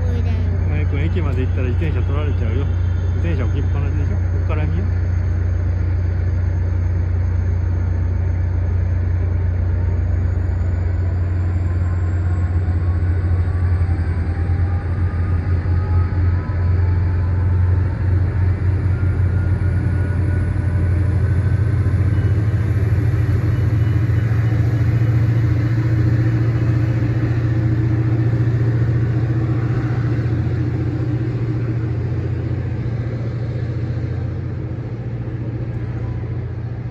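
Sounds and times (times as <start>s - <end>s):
diesel locomotive engine humming: 0.0s - 36.9s.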